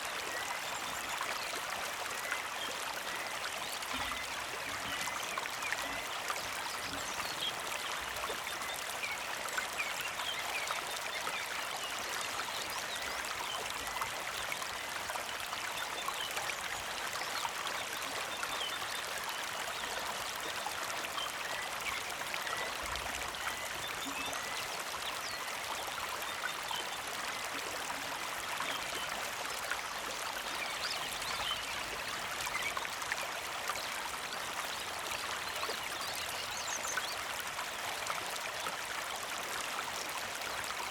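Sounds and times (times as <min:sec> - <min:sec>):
creek trickling: 0:00.0 - 0:40.9.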